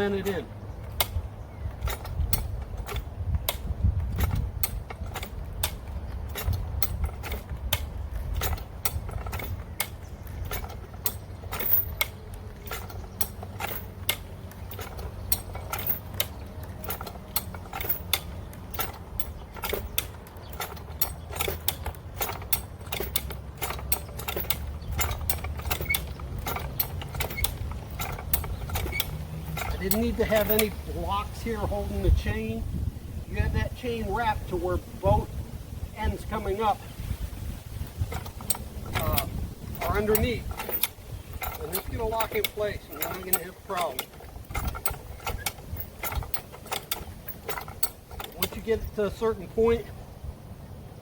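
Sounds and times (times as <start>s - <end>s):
jack ratchet clicking: 0.0s - 31.7s, 37.7s - 49.8s
metal creaking under load: 0.0s - 50.1s.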